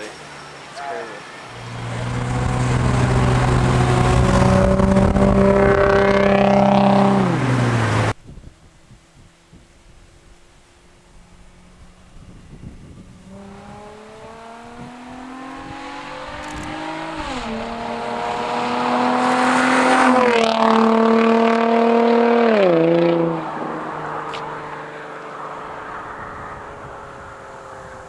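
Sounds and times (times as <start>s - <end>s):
car engine accelerating: 1.3s - 8.2s, 10.9s - 28.0s.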